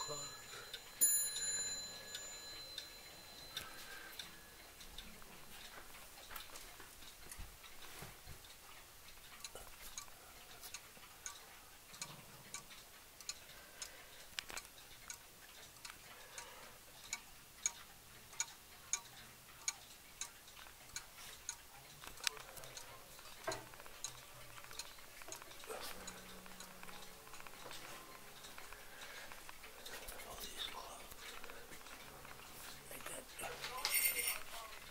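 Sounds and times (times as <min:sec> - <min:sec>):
pendulum clock ticking: 0:00.0 - 0:34.9.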